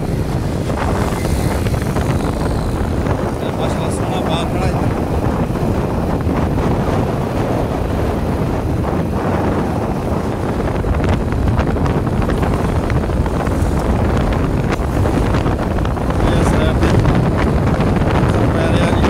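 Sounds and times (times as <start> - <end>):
vehicle engine and road noise: 0.0 - 19.0
wind buffeting microphone: 0.0 - 19.0.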